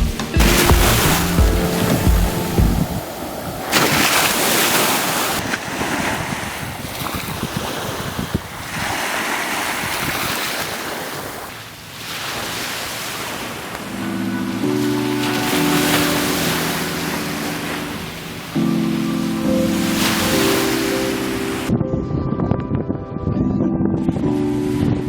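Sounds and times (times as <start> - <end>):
wind on microphone: 0.4 - 11.6, 13.1 - 25.0
waves washing onto beach: 0.4 - 21.7.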